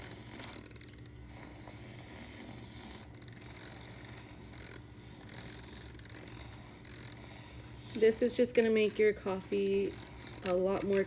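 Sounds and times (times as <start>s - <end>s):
electric milk frother running: 0.0s - 11.0s.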